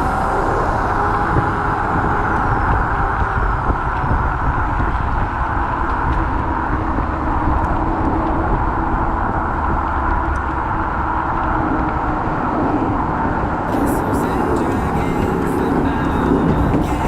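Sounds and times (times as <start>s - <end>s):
traffic and road noise: 0.0s - 17.0s.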